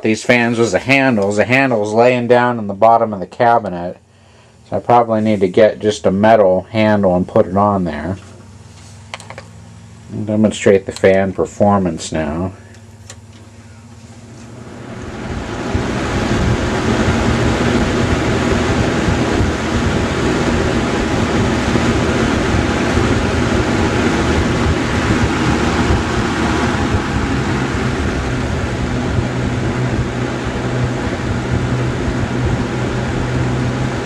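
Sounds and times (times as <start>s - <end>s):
box fan air rushing: 0.0s - 34.0s
low motor hum: 0.0s - 34.0s.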